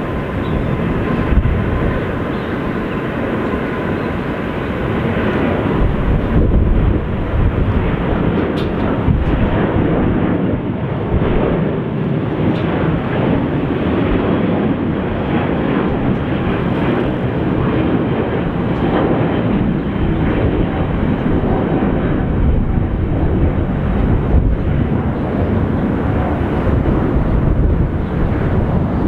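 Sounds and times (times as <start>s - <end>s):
jet engine rushing: 0.0s - 29.0s.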